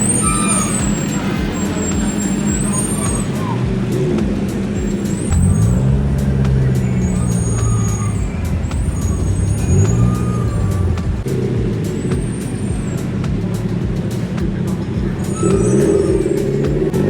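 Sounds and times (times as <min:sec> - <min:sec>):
thin high squeal: 0:00.0 - 0:13.2, 0:15.2 - 0:17.0
vehicle engines running: 0:00.0 - 0:17.0.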